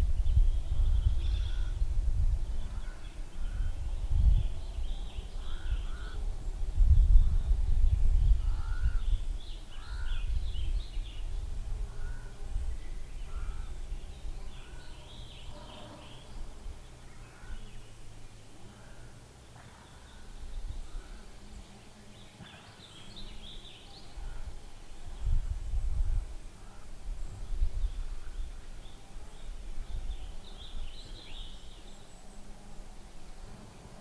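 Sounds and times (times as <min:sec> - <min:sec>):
wind rumble on microphone: 0:00.0 - 0:19.1, 0:20.1 - 0:34.0
birds chirping: 0:00.0 - 0:34.0.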